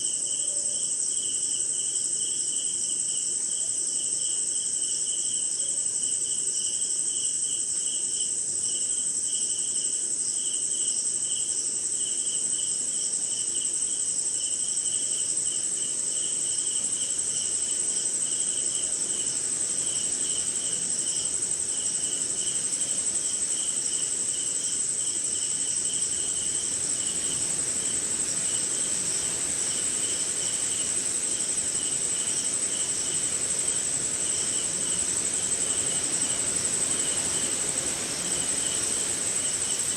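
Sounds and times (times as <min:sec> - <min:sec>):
high-pitched insect trill: 0:00.0 - 0:39.9
rhythmic pulsing cricket chirp: 0:00.0 - 0:39.9.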